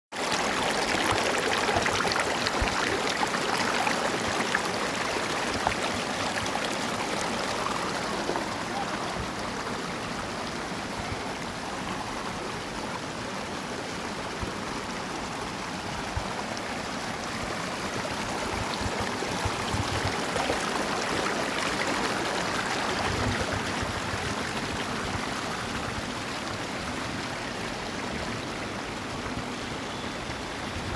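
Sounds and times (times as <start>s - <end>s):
water rushing: 0.1s - 30.9s.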